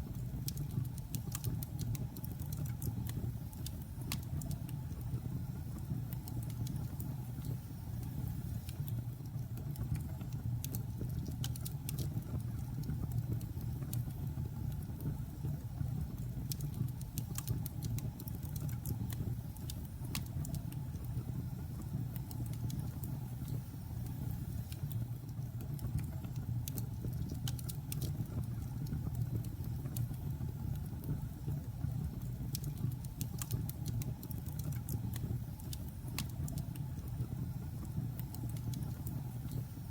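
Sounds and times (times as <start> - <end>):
fire crackles and pops: 0.0 - 39.9.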